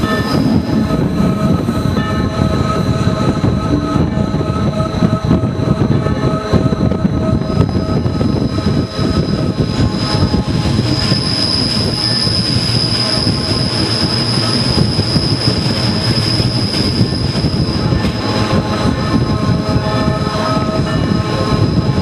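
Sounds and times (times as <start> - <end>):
train wheels squealing: 0.0 - 22.0
wheels rumbling on rails: 0.0 - 22.0.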